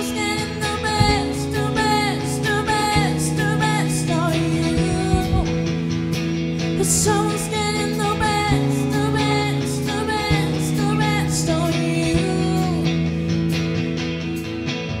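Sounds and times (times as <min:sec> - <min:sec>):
woman singing lead: 0:00.0 - 0:06.0, 0:06.6 - 0:13.2
electric bass: 0:00.0 - 0:15.0
electric guitars: 0:00.0 - 0:15.0.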